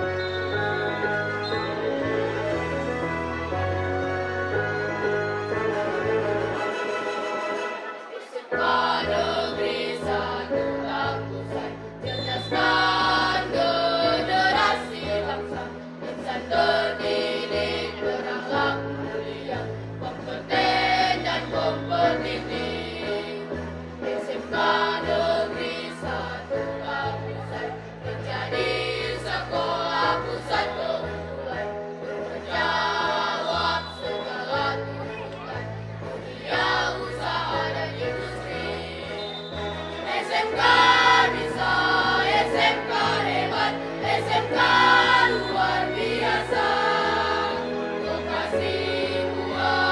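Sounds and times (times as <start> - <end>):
bass line accompaniment: 0.0 - 6.8, 8.6 - 49.9
children's choir singing: 4.8 - 49.9.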